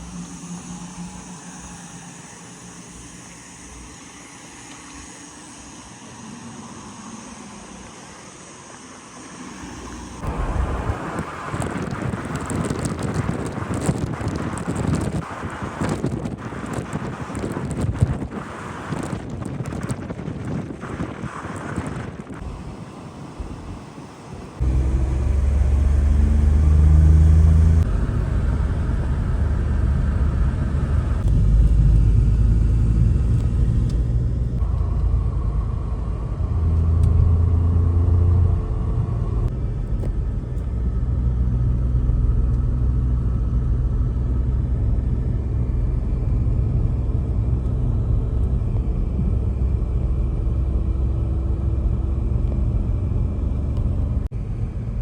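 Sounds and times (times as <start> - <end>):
moving vehicle rumble: 9.1 - 55.0.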